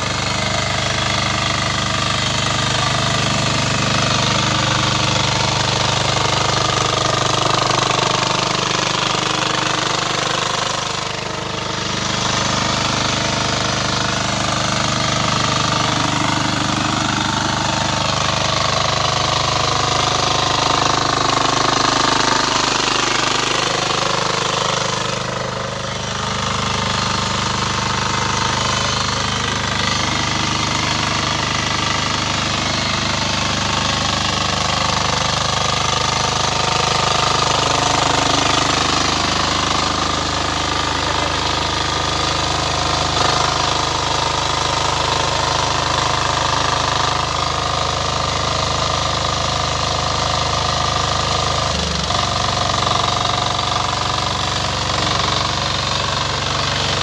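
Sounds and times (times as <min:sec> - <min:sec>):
power weeder engine running: 0:00.0 - 0:57.0.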